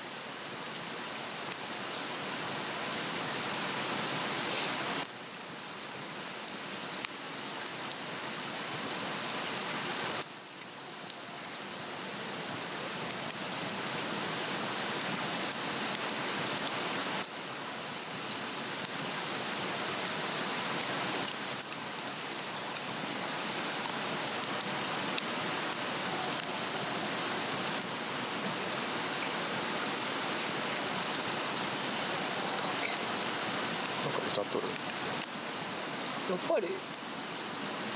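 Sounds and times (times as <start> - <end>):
faint fire crackles: 0.0 - 37.9
log fire rushing hiss: 0.1 - 5.2, 11.6 - 37.9.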